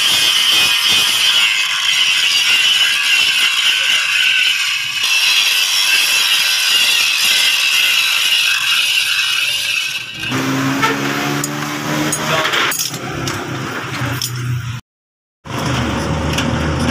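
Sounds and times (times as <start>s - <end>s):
angle grinder grinding steel: 0.0s - 14.7s.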